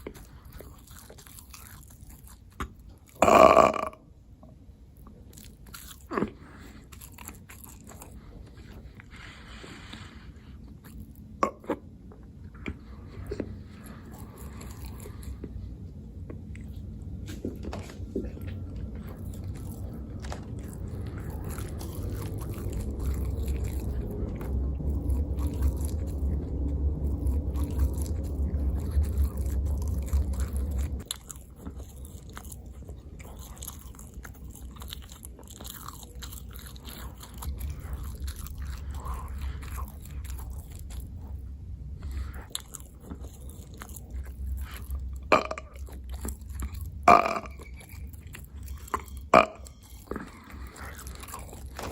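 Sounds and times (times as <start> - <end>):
person chewing and biting: 0.0 - 3.9, 5.1 - 8.8, 12.6 - 51.9.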